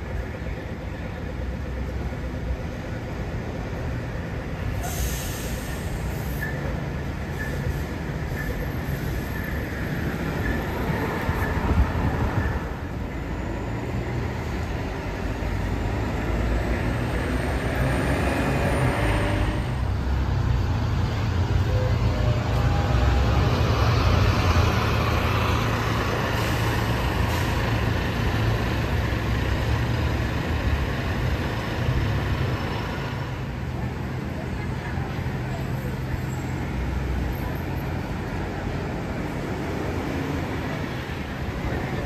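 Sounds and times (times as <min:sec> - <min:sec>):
buses and traffic passing: 0:00.0 - 0:42.0.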